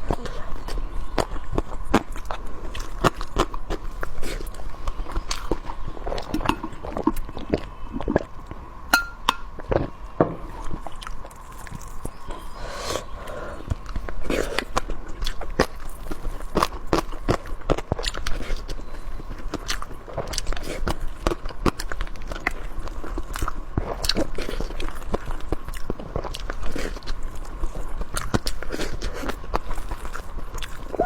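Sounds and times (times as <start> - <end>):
person chewing food: 0.0 - 9.9, 10.6 - 31.0.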